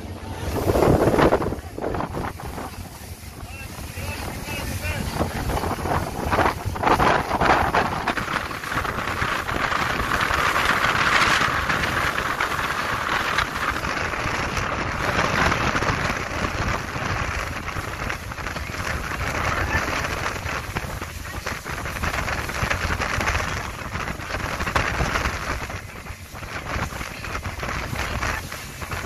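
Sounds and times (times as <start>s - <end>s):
water splashing along boat hull: 0.0s - 29.0s
wind buffeting microphone: 0.0s - 29.0s.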